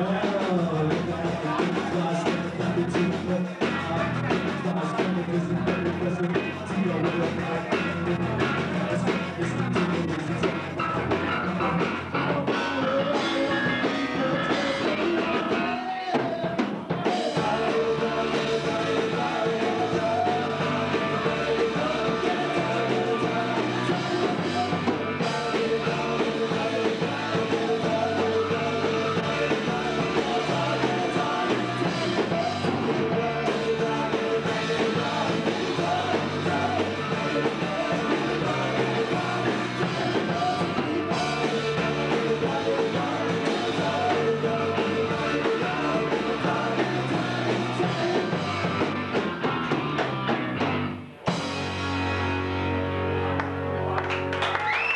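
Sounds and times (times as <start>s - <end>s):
bass guitar: 0.0s - 54.9s
drum kit: 0.0s - 54.9s
electric guitar: 0.0s - 54.9s.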